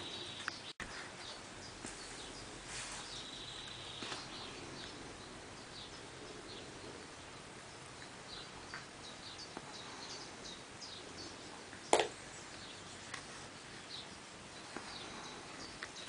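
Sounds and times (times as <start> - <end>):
faint bird chirps: 0.0 - 16.0
outdoor background noise: 0.0 - 16.0.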